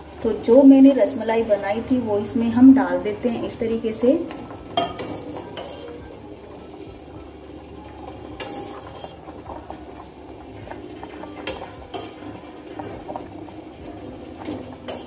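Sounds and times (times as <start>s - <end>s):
milk simmering and bubbling: 0.0s - 15.0s.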